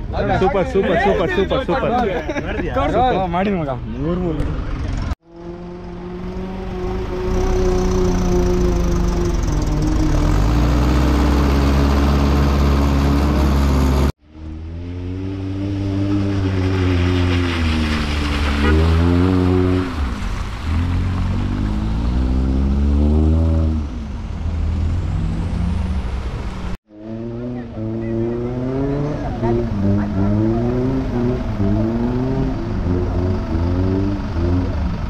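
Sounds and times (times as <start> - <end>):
off-road engines running: 0.0 - 35.0
engine revving: 4.4 - 35.0.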